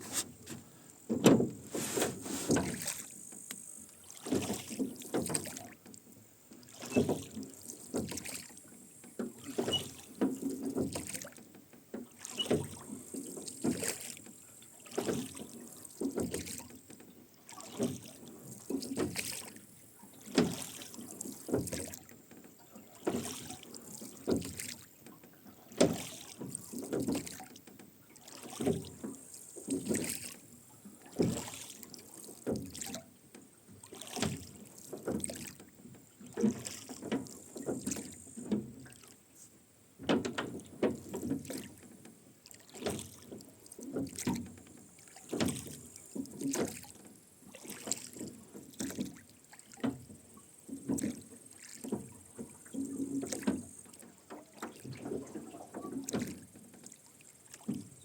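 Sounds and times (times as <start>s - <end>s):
oars splashing: 0.0s - 58.0s.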